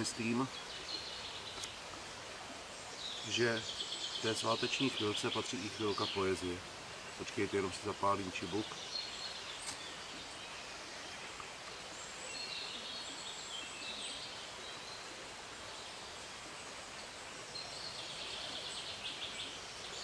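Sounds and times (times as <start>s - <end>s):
outdoor background hiss: 0.0s - 20.0s
small birds singing: 0.0s - 20.0s.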